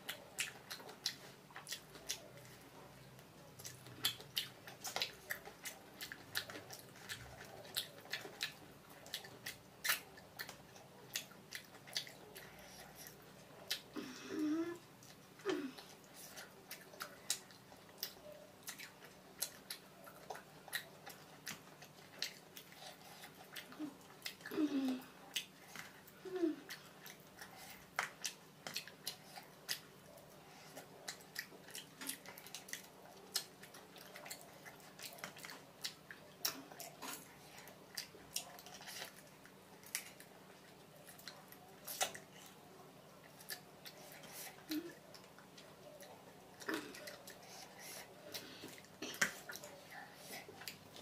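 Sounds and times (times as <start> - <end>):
wet chewing with lip smacking: 0.0 - 14.0, 14.8 - 51.0.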